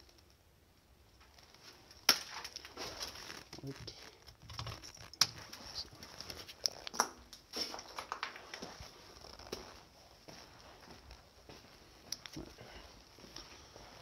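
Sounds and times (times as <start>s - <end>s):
footsteps crunching over debris: 1.2s - 14.0s.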